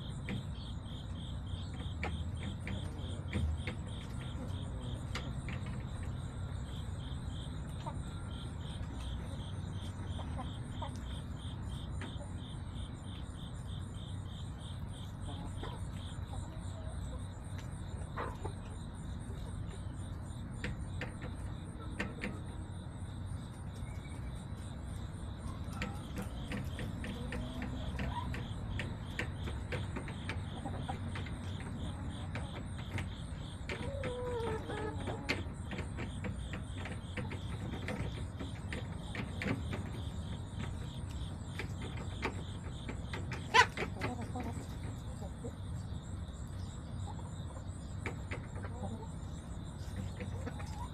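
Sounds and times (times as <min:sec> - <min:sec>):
crickets chirping: 0:00.0 - 0:50.9.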